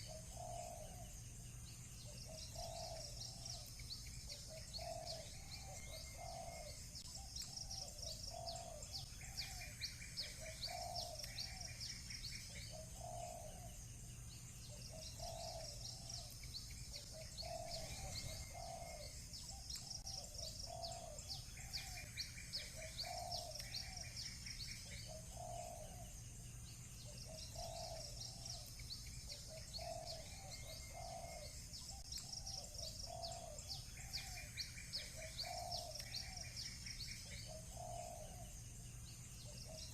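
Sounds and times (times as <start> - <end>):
doves cooing: 0.0 - 1.2, 2.0 - 13.8, 14.7 - 26.2, 27.0 - 38.6
small birds chirping: 0.0 - 39.9.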